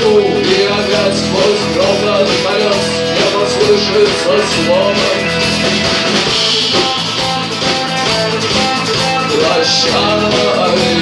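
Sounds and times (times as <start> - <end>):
drums: 0.0 - 11.0
guitars: 0.0 - 11.0.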